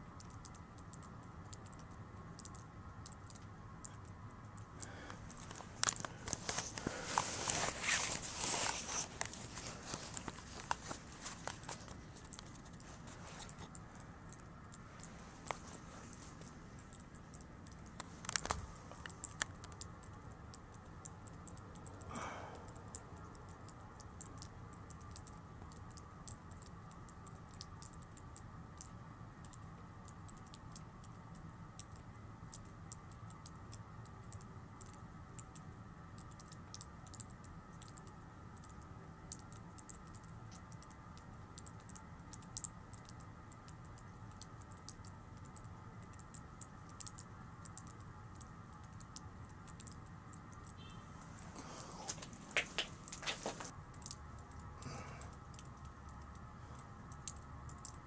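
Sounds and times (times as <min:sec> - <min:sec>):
faint clicks and ticks: 0:00.0 - 0:58.0.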